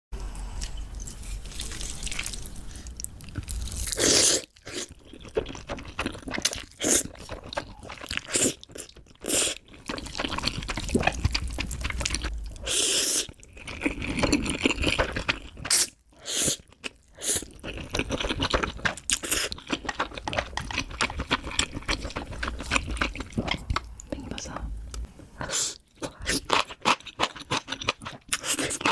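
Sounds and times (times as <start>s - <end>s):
chewing and crunching: 1.2s - 12.6s, 13.3s - 16.0s, 16.6s - 24.1s, 25.9s - 28.9s.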